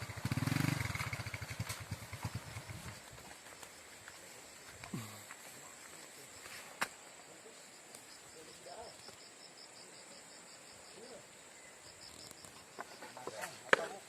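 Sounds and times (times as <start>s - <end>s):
insect chirps: 0.0s - 14.0s.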